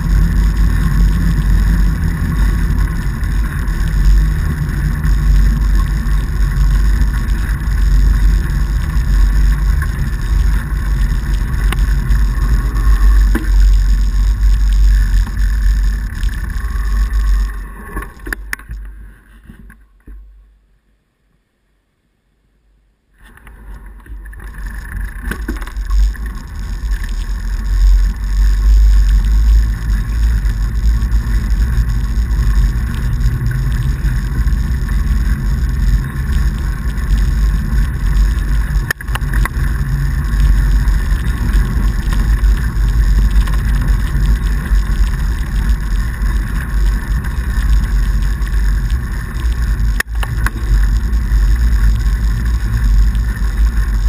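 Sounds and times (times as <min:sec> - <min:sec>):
bike tyres rolling on snow: 0:00.0 - 0:20.2, 0:23.2 - 0:54.0.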